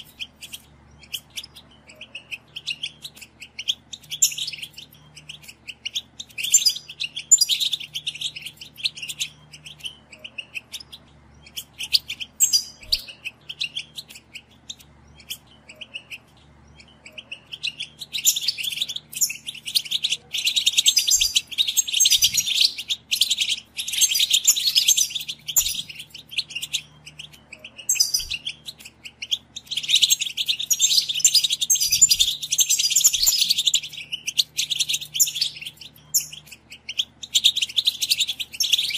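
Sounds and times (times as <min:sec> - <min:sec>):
goldfinch twittering song: 0:00.0 - 0:38.9.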